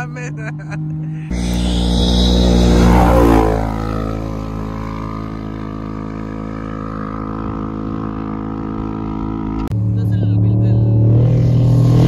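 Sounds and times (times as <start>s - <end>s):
steady engine drone: 0.0s - 12.0s
vehicle passing close: 0.0s - 12.0s.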